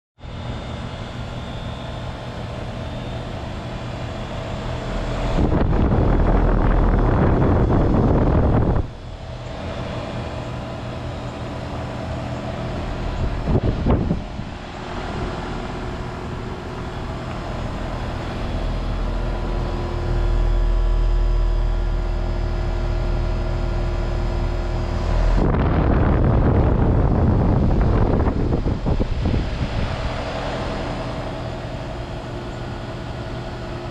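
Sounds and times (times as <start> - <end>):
compressor humming: 0.2 - 33.9
outdoor fan: 0.2 - 33.9
rushing of air: 0.4 - 33.9.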